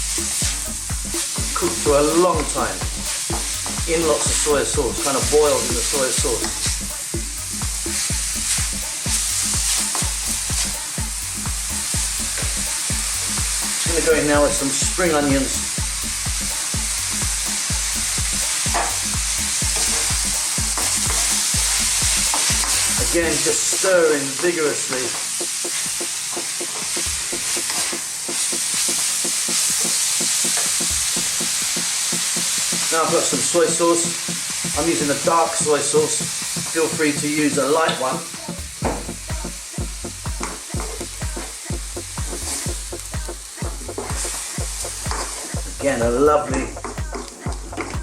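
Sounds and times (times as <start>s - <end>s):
background music with steady beat: 0.0s - 48.0s
food sizzling in a wok: 0.0s - 48.0s.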